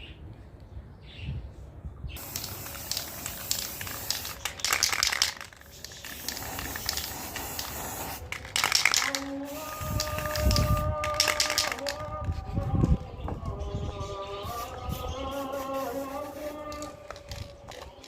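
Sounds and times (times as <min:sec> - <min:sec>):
spray paint hissing: 0:02.2 - 0:18.0.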